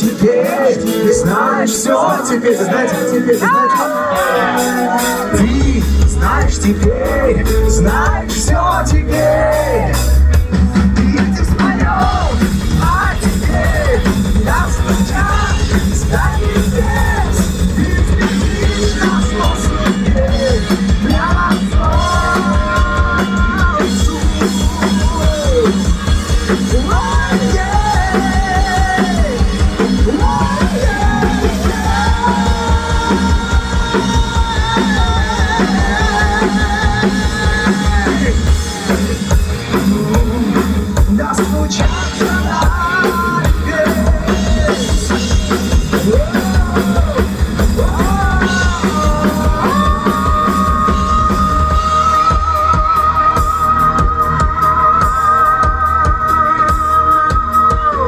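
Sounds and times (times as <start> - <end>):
heavy rock band playing: 0.0 - 58.0.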